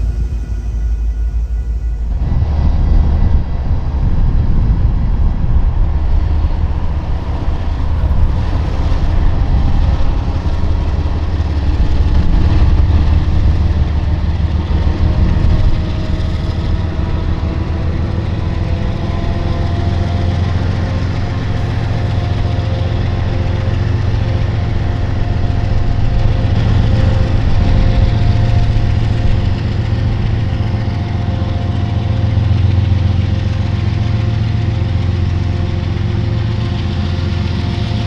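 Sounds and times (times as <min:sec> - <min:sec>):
diesel locomotive engine hum: 0:00.0 - 0:38.0.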